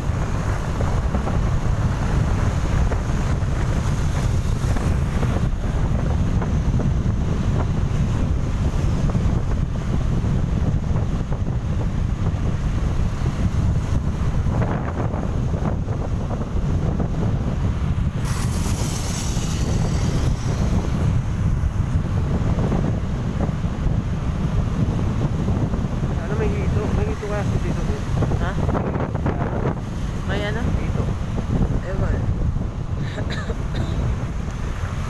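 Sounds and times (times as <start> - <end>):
road noise rumble: 0.0 - 35.0
wind buffeting microphone: 0.0 - 35.0.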